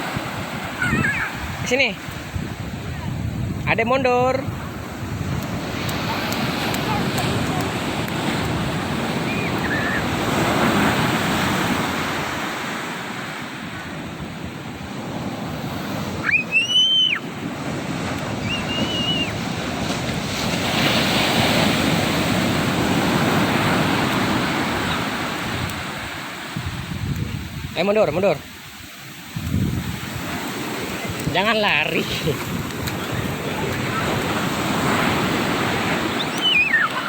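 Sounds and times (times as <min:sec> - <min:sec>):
sea surf washing on beach: 0:00.0 - 0:37.0.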